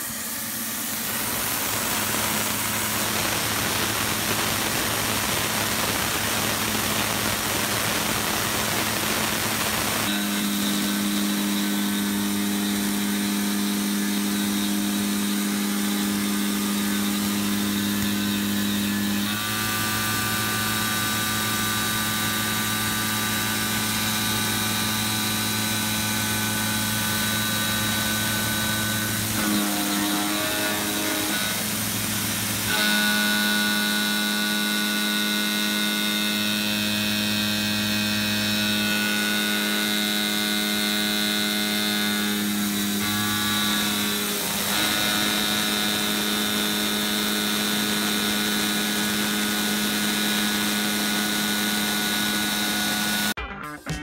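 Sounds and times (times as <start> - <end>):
spindle hum: 0.0 - 54.0.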